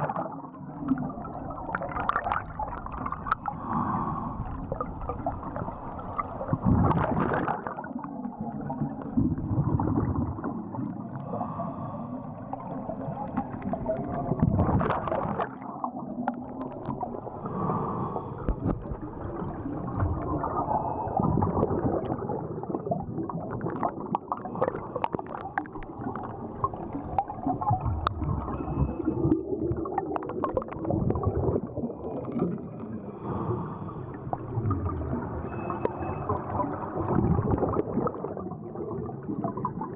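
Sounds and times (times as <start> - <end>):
underwater exhaust bubbles gurgling: 0.0 - 39.9.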